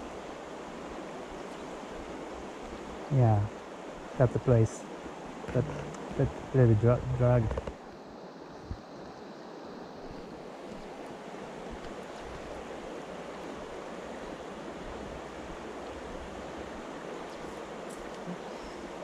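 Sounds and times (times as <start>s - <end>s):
stream rushing over stones: 0.0s - 19.0s.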